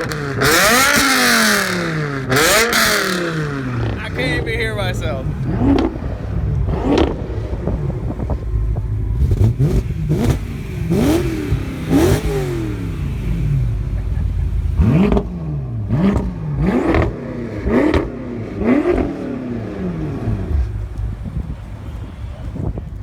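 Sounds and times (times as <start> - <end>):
exhaust pops: 0.0 - 19.1
car engine revving: 0.0 - 22.8.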